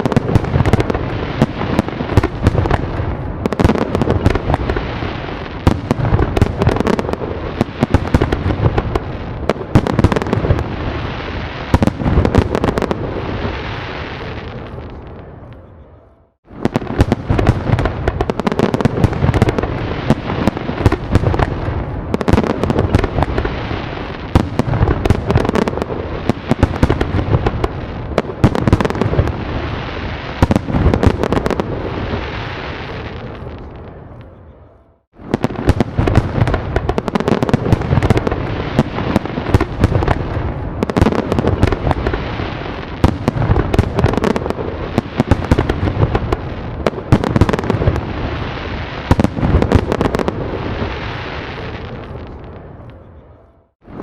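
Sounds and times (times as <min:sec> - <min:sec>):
fireworks bangs and crackling: 0:00.0 - 0:15.7, 0:16.4 - 0:54.0.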